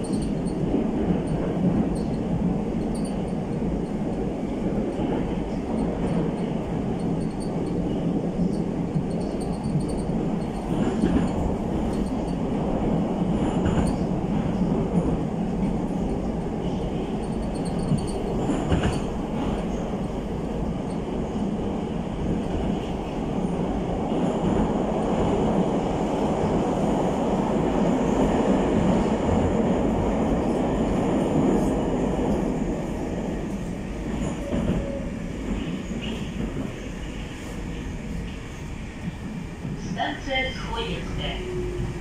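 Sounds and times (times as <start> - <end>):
metro train wheels rumbling: 0.0 - 42.0.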